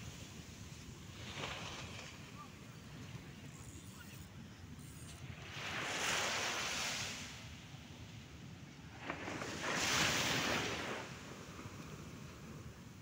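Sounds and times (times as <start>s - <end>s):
waves breaking on beach: 0.0s - 4.5s, 5.2s - 13.0s.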